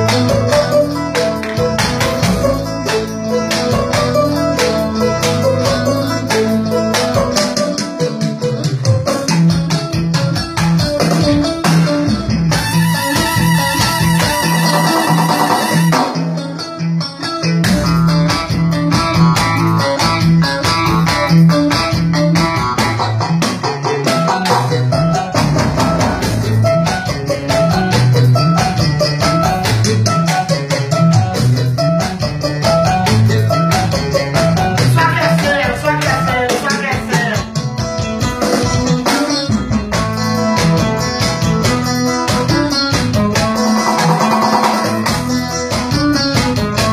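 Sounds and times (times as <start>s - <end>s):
quick percussion beat: 0.0s - 16.6s, 17.2s - 46.9s
deep bass: 0.0s - 46.9s
electronic keyboard bass figure: 0.0s - 46.9s
picked electric guitar notes: 0.0s - 46.9s.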